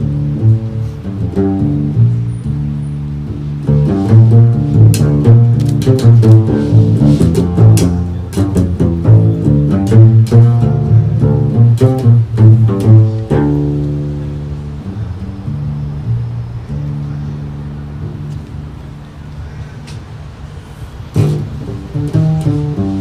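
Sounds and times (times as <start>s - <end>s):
plucked double bass: 0.0s - 23.0s.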